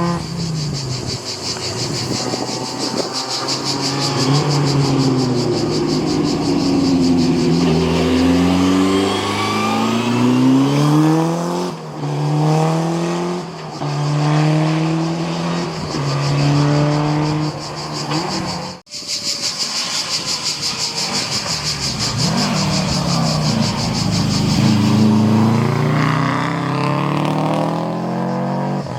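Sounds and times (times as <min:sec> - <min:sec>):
engine pulsing rapidly: 0:00.0 - 0:11.9, 0:13.5 - 0:28.9
racing car engine accelerating: 0:00.0 - 0:18.6, 0:20.7 - 0:28.9.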